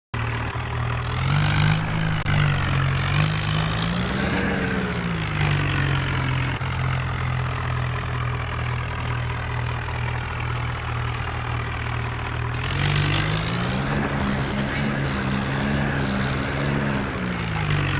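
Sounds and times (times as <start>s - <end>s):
tractor engine revving and idling: 0.2s - 17.9s.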